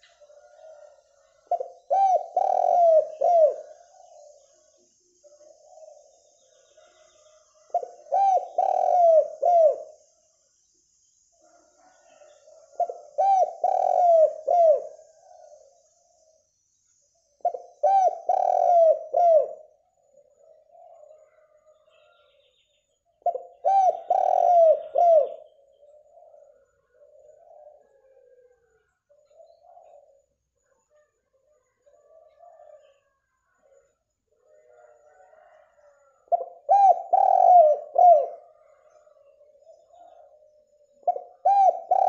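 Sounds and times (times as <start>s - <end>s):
dove cooing: 0.0s - 10.1s, 11.4s - 15.8s, 17.4s - 22.2s, 23.1s - 30.3s, 30.9s - 42.0s.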